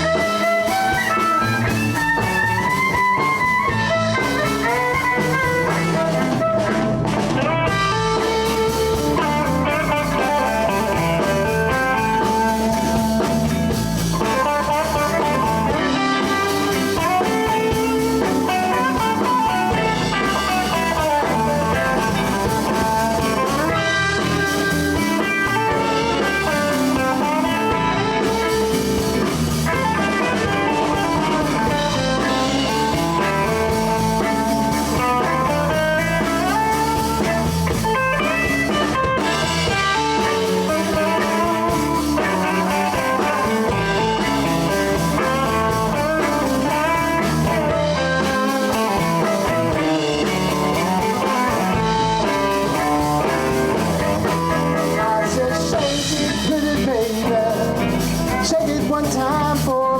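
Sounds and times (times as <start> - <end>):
lead guitar line bending pitch: 0.0 - 58.7
live blues band playing: 0.0 - 59.9.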